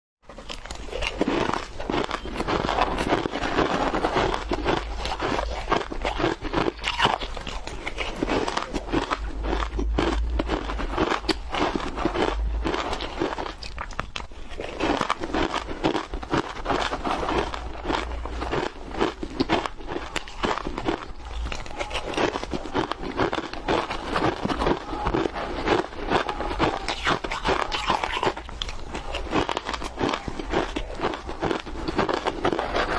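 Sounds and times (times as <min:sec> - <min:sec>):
chewing ice: 0:00.3 - 0:32.9.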